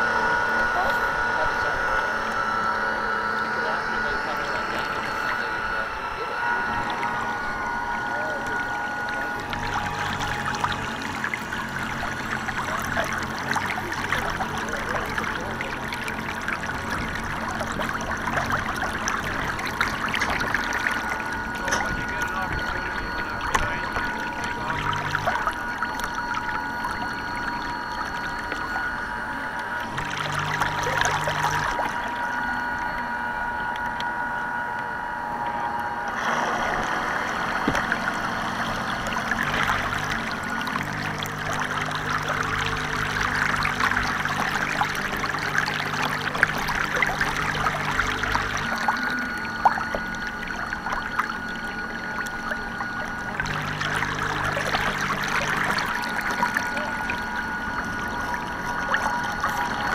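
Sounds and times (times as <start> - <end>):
lake water lapping and splashing: 0.0 - 34.1, 36.0 - 59.9
model boat motor whining: 0.0 - 59.9.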